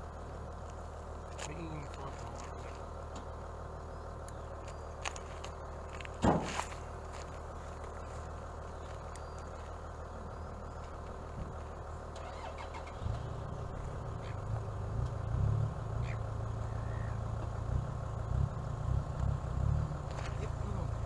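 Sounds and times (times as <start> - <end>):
engine pulsing drone: 0.0 - 21.0
steady low hum: 0.0 - 21.0.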